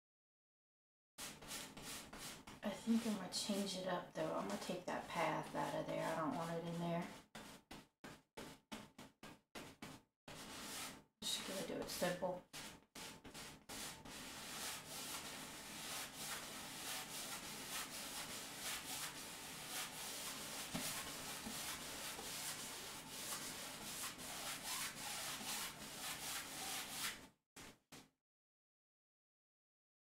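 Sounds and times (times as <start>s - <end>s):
paintbrush scrubbing on canvas: 1.2s - 27.2s.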